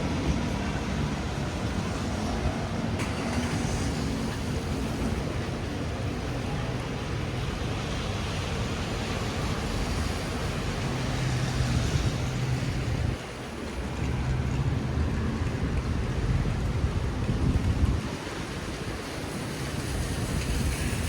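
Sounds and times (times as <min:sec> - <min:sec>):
steady rain: 0:00.0 - 0:21.0
traffic on wet streets: 0:00.0 - 0:21.0.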